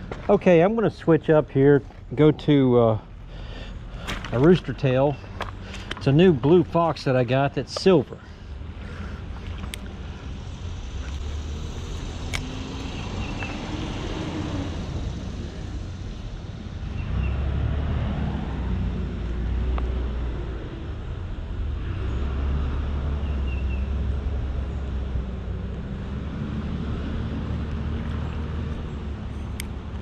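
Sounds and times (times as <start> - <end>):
traffic rumbling overhead: 0.0 - 30.0.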